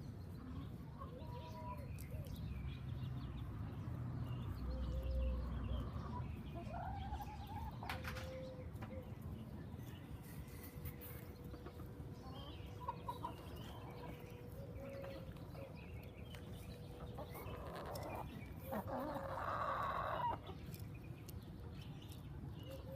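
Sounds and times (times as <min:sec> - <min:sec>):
chickens clucking: 0:00.3 - 0:02.4, 0:03.8 - 0:22.9.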